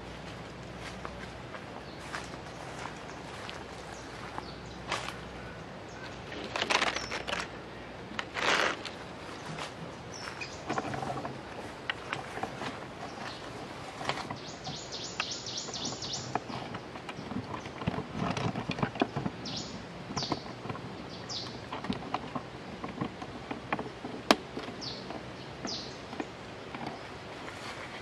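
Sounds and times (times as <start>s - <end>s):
bird calls: 0.7s - 18.0s, 18.8s - 22.9s, 24.6s - 28.0s.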